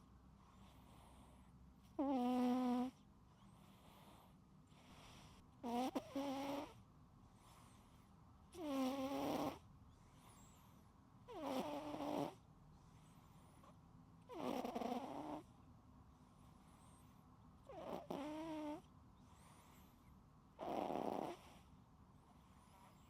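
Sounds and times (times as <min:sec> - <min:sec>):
cat snoring: 0:00.4 - 0:06.8, 0:07.4 - 0:10.7, 0:11.3 - 0:15.6, 0:16.6 - 0:23.0.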